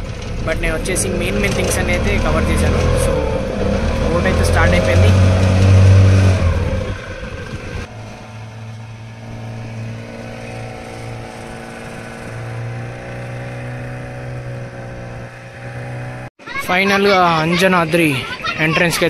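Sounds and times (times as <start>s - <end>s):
motorboat engine humming: 0.0s - 16.3s.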